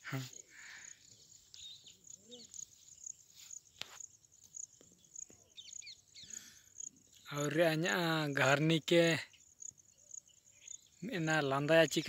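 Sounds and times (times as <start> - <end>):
insects trilling: 0.0 - 12.0
bird chirps: 0.1 - 8.5, 9.1 - 12.0.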